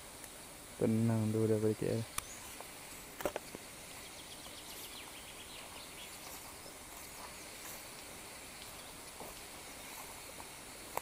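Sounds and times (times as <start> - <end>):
faint high hiss: 0.0 - 11.0.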